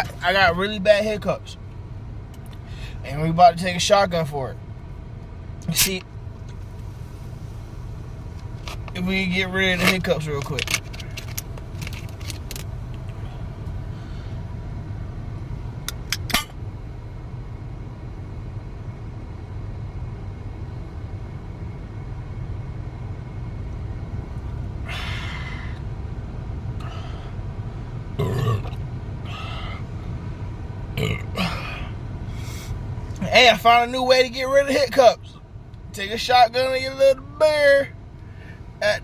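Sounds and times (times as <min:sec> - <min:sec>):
car cabin rumble: 0:00.0 - 0:39.0.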